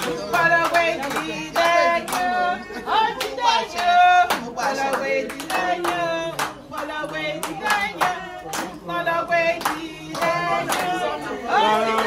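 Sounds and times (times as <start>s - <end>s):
people singing together: 0.0s - 12.0s
rhythmic hand clapping: 0.0s - 12.0s.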